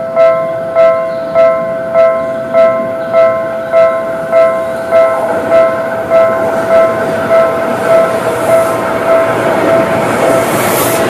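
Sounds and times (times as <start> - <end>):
level crossing warning bell: 0.0 - 11.0
train rumble: 0.0 - 11.0.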